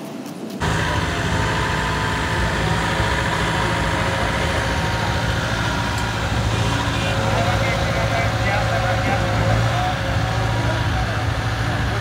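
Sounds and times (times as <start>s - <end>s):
road roller diesel engine: 0.6s - 12.0s.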